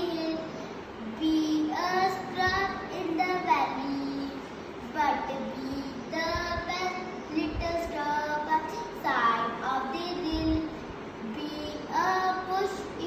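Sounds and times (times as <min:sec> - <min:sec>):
girl reciting in sing-song voice: 0:00.0 - 0:13.0.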